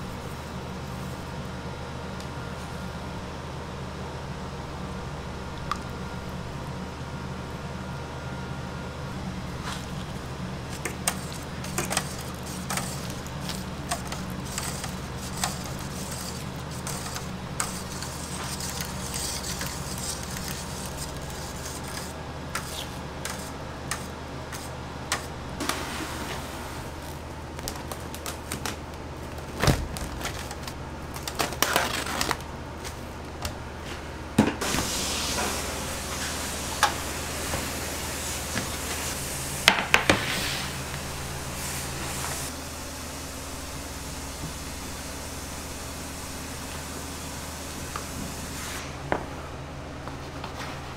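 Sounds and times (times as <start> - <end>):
low hum of equipment: 0.0 - 50.9.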